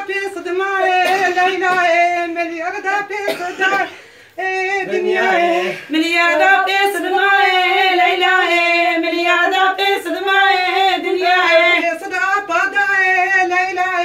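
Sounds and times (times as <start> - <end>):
lower voice singing: 0.0 - 14.0
women singing: 0.0 - 14.0.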